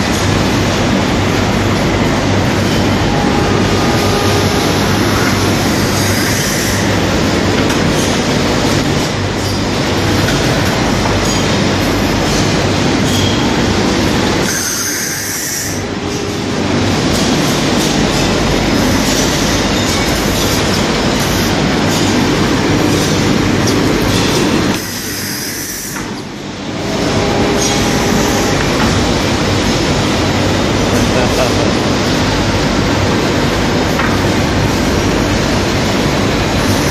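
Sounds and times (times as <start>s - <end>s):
cutting machine running: 0.0s - 36.9s.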